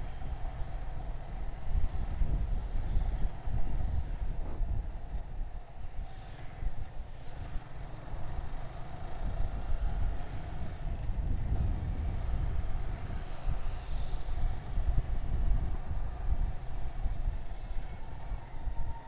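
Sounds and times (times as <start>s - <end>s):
wind buffeting microphone: 0.0s - 7.6s, 9.2s - 19.0s.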